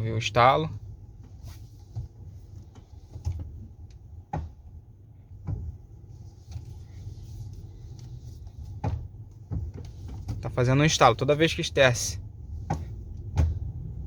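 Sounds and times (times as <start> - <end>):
steady low hum: 0.0 - 14.0
steering clicking: 0.2 - 14.0.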